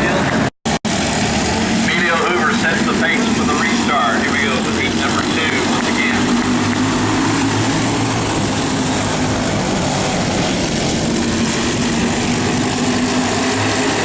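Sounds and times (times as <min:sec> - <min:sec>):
racing engines drone: 0:00.0 - 0:14.0.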